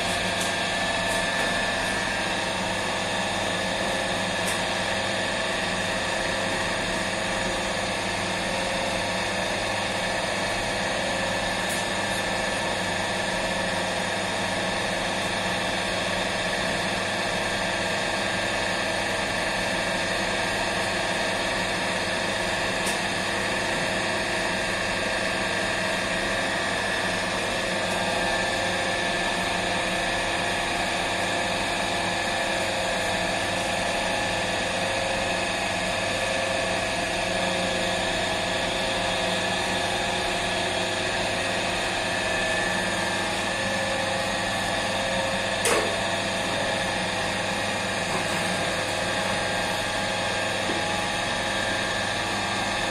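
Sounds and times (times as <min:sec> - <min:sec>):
dough mixer humming: 0:00.0 - 0:52.9.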